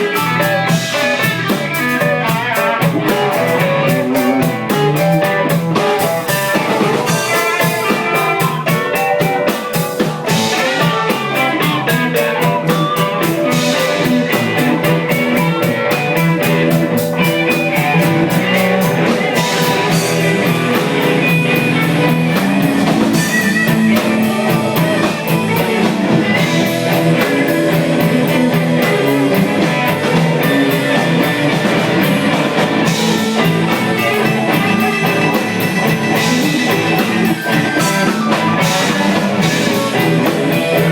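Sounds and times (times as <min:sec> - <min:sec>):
drum kit steady beat: 0:00.0 - 0:40.9
electric guitar: 0:00.0 - 0:40.9.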